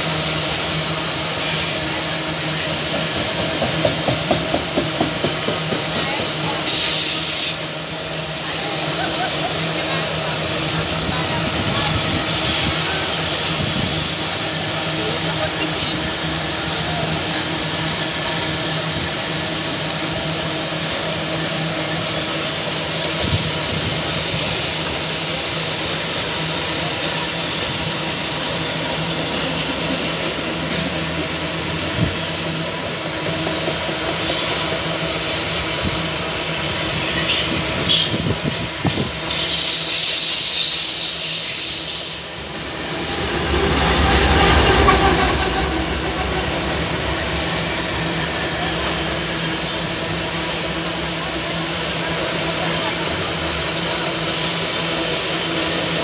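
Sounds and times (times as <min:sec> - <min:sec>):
locomotive engine rumble: 0:00.0 - 0:56.0
steel wheels rumbling on rail: 0:00.0 - 0:56.0.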